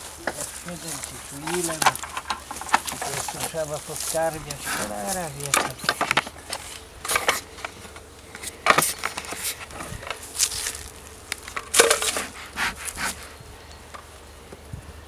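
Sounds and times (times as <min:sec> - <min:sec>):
bee smoker puffs hissing: 0:00.0 - 0:13.7
wooden hive boards handled: 0:00.0 - 0:14.1
honeybees humming: 0:00.0 - 0:15.0.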